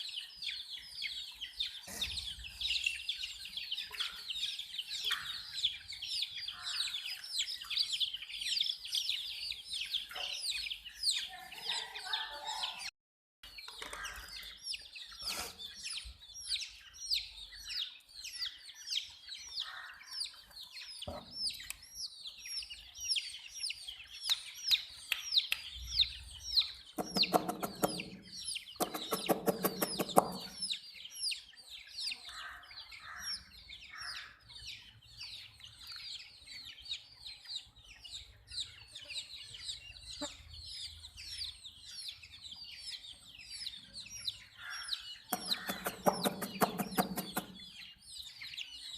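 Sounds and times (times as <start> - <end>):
baby chicks peeping: 0.0 - 48.9
longer lower bird calls: 0.0 - 48.9.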